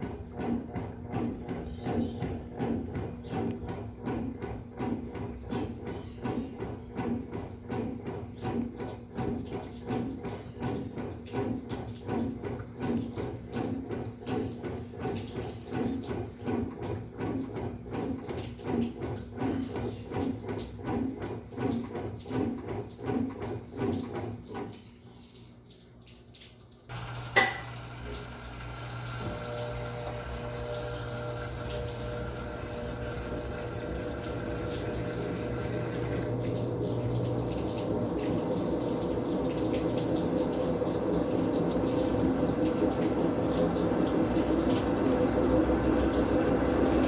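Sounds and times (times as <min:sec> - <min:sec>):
pump humming: 0:00.0 - 0:25.2, 0:26.9 - 0:47.0
washing machine water sloshing: 0:00.0 - 0:47.0.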